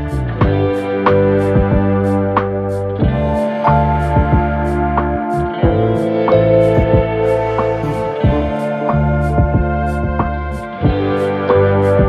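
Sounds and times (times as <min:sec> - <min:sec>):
calm instrumental music: 0:00.0 - 0:12.0.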